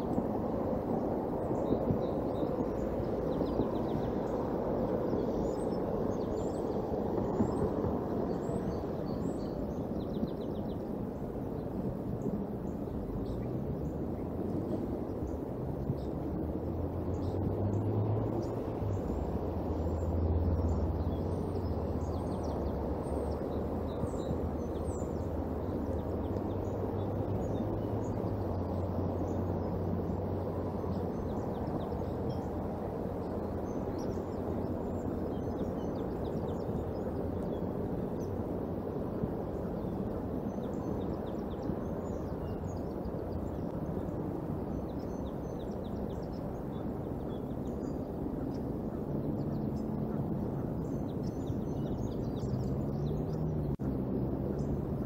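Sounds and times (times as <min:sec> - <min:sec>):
rain and wind: 0:00.0 - 0:55.0
songbirds chirping: 0:00.0 - 0:55.0.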